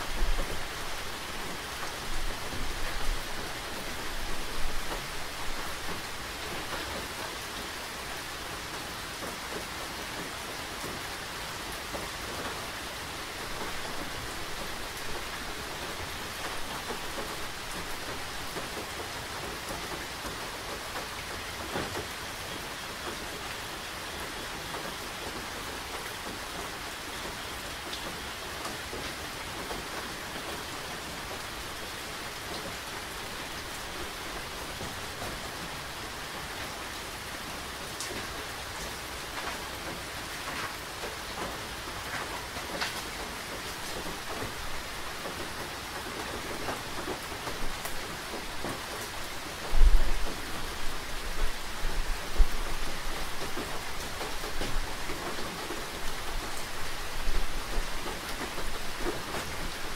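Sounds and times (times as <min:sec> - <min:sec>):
raindrops: 0:00.0 - 0:59.9
steady rain falling: 0:00.0 - 0:59.9.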